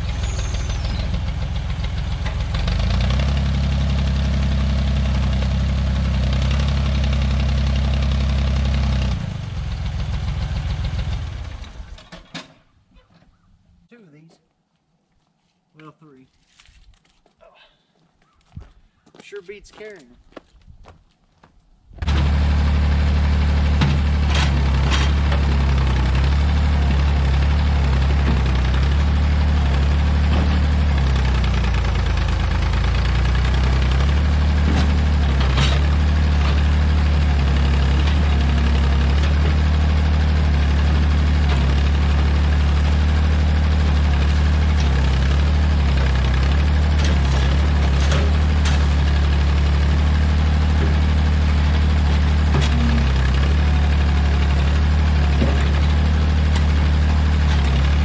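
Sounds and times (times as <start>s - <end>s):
backhoe engine running: 0.0s - 12.3s, 22.0s - 58.0s.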